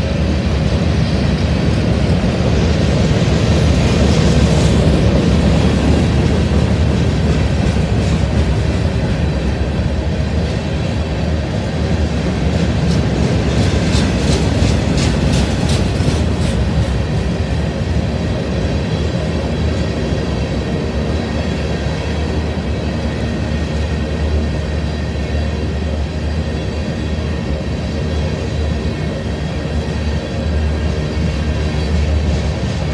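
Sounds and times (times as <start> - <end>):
train rumbling past: 0.0 - 32.9
wheels clacking on rail joints: 0.0 - 32.9.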